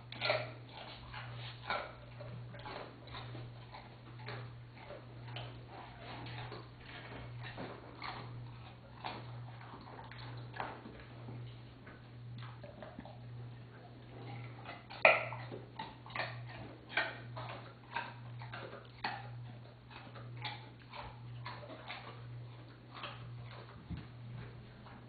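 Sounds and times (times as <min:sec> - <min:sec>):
dog chewing and licking: 0:00.0 - 0:25.0
steady low hum: 0:00.0 - 0:25.0.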